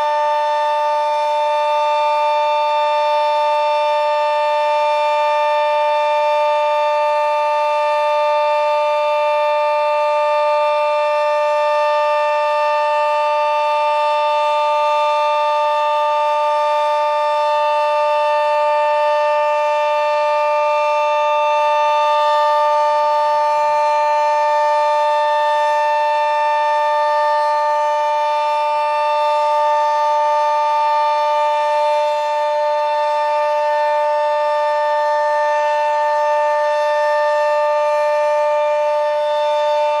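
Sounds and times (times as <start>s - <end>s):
two-tone warning siren: 0.0s - 40.0s.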